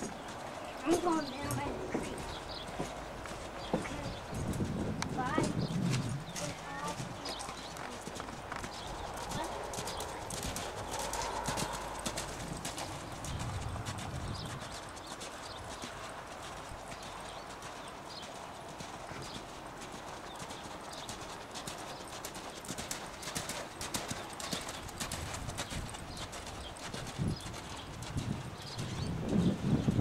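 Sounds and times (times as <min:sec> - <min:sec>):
horse hoofbeats on sand: 0:00.0 - 0:30.0.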